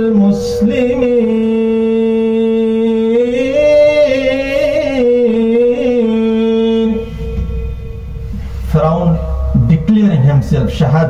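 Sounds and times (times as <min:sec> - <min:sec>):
man chanting melodic recitation: 0:00.0 - 0:11.0.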